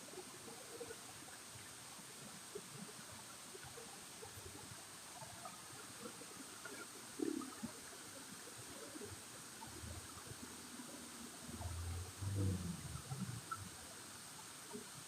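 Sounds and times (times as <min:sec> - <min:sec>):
running water rushing: 0:00.0 - 0:15.0
small clicks and ticks: 0:00.1 - 0:15.0.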